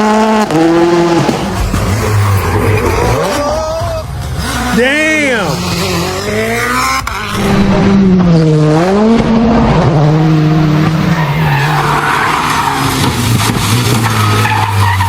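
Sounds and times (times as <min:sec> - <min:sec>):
rally car engine revving: 0:00.0 - 0:15.0
tyre and road noise: 0:00.0 - 0:15.0.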